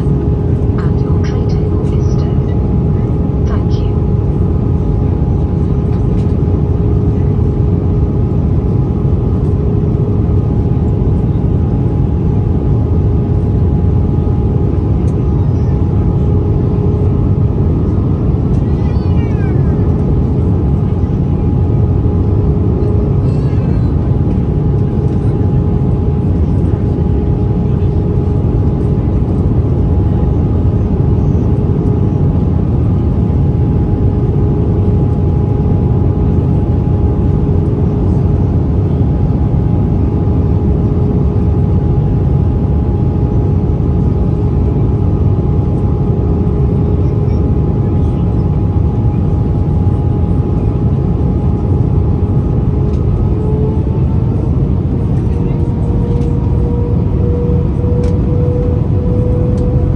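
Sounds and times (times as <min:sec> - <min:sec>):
airplane engines and airflow rumble: 0:00.0 - 0:59.9
steady hum tones: 0:00.0 - 0:59.9.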